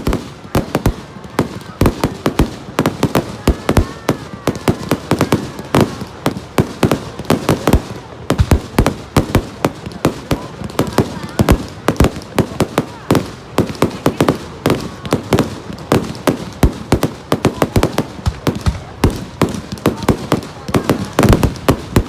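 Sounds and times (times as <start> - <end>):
fireworks bangs and cracks: 0.0 - 22.0.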